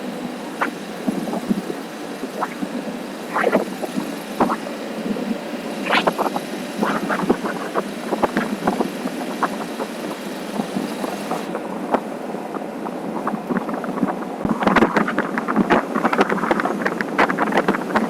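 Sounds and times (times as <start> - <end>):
motorcycle engine and road noise: 0.0 - 18.0.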